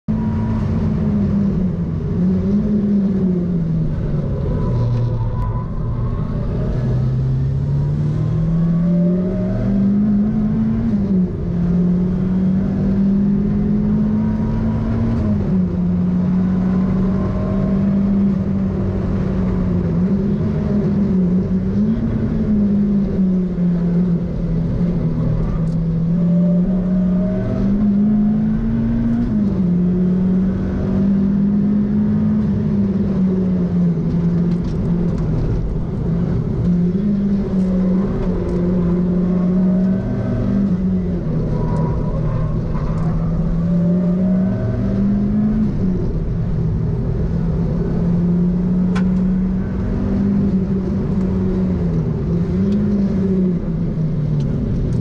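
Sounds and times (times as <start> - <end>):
road and wind noise: 0.0 - 55.0
car engine revving through gears: 0.1 - 55.0.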